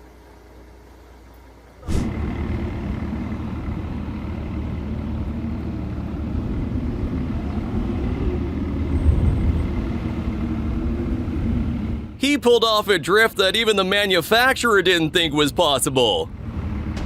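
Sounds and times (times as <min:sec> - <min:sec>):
vehicle engine running: 0:01.8 - 0:17.0.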